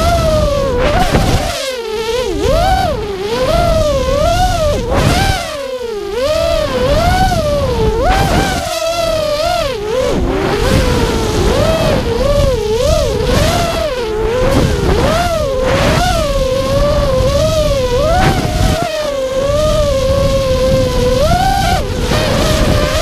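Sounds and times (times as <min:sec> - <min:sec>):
quadcopter motors whining: 0:00.0 - 0:23.0
wind on microphone: 0:00.0 - 0:23.0.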